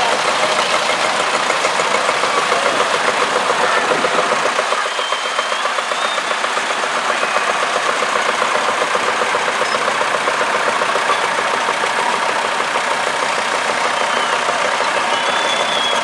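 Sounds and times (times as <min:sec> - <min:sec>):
tractor engine chugging: 0:00.0 - 0:16.0.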